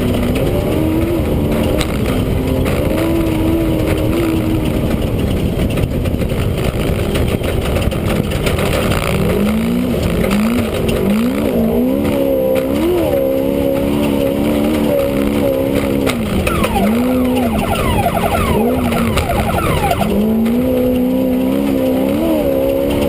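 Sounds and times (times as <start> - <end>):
loud steady ride rumble: 0.0 - 23.0
race vehicle engine revving: 0.0 - 23.0.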